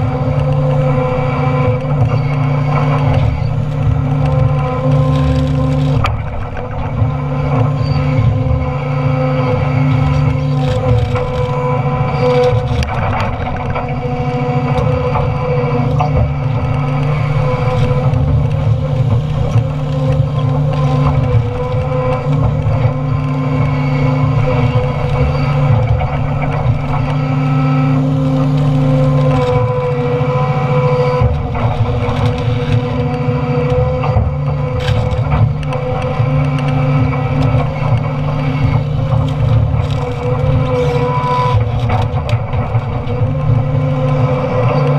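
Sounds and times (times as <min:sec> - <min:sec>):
excavator diesel engine running: 0:00.0 - 0:44.9
wood cracking and breaking: 0:00.0 - 0:44.9.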